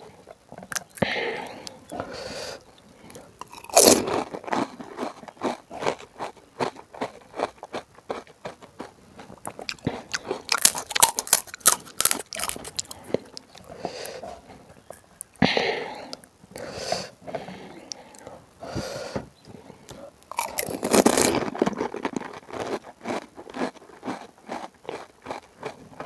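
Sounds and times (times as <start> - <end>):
crisp shells crunching in mouth: 0.6 - 15.4, 19.9 - 26.0.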